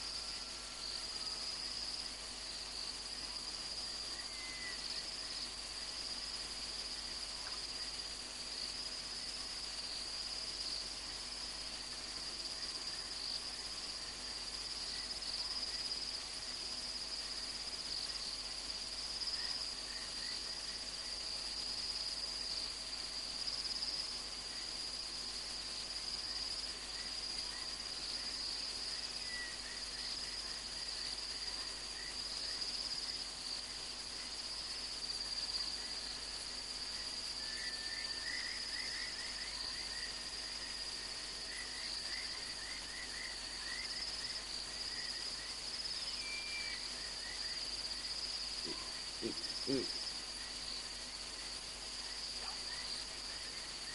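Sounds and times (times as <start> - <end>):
high-pitched cricket trill: 0.0 - 53.9
lower rapid insect chirps: 0.0 - 53.9.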